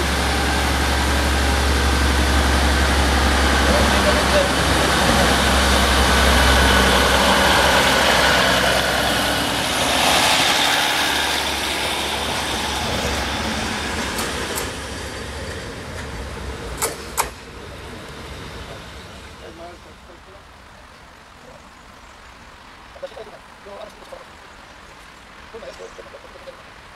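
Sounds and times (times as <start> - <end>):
diesel railcar passing: 0.0 - 26.9.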